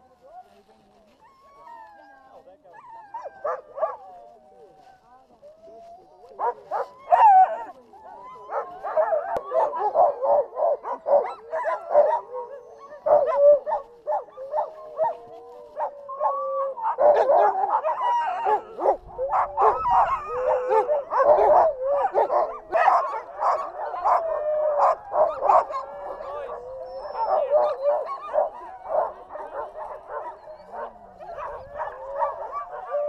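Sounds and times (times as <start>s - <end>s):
sled dogs barking and howling: 0.0s - 33.0s.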